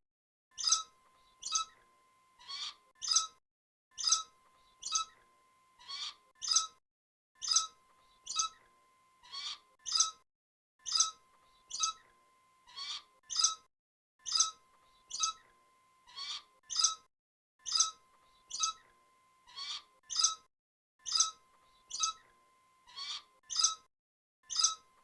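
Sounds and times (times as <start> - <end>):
rat squeaking: 0.6 - 1.8, 2.4 - 3.4, 4.0 - 5.2, 5.8 - 6.8, 7.4 - 8.6, 9.2 - 10.2, 10.8 - 23.9, 24.5 - 24.9.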